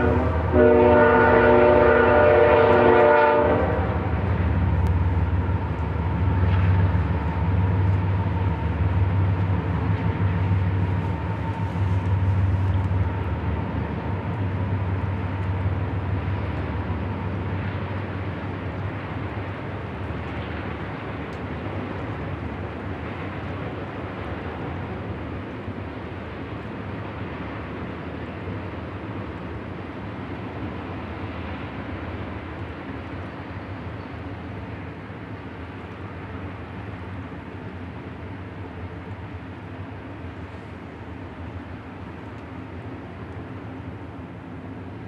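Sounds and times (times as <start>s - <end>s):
diesel locomotive engine drone: 0.0s - 45.0s
wheels rumbling and rattling on rail: 0.0s - 45.0s.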